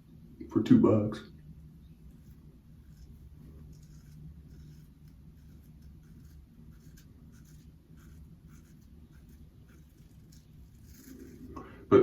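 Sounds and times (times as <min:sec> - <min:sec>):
low room hum: 0:00.0 - 0:12.0
razor scraping through stubble: 0:01.9 - 0:11.6.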